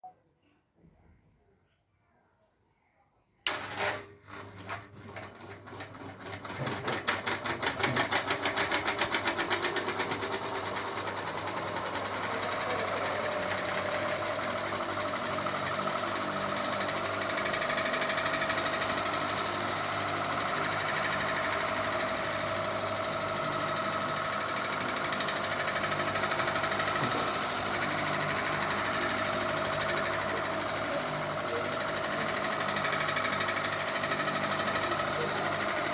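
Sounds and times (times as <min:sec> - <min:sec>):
fan whine: 0:03.5 - 0:07.1, 0:07.8 - 0:35.9.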